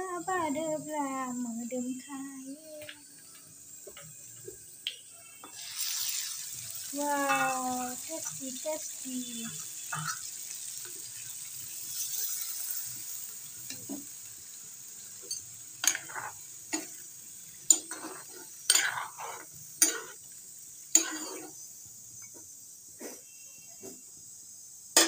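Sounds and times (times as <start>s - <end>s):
chicken sizzling in a pan: 2.1s - 25.0s.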